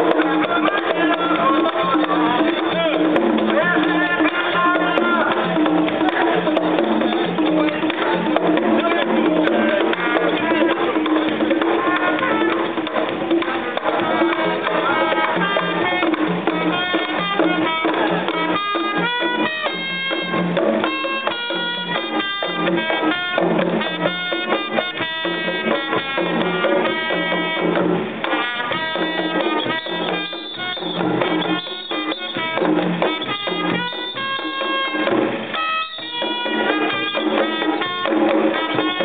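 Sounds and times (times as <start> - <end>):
drums: 0.0 - 39.0
held horn notes: 0.0 - 39.0
live band music: 0.0 - 39.0.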